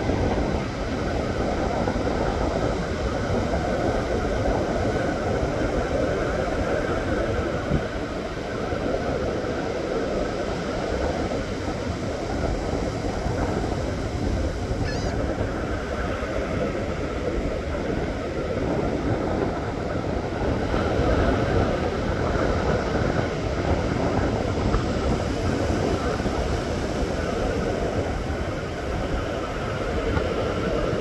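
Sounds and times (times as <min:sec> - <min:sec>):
ocean surf breaking: 0:00.0 - 0:31.0.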